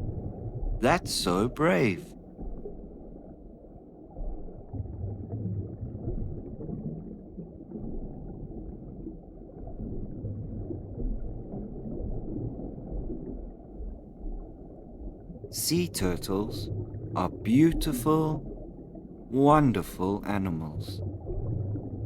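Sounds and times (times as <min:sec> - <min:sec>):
muffled underwater rumble and gurgle: 0:00.0 - 0:22.0.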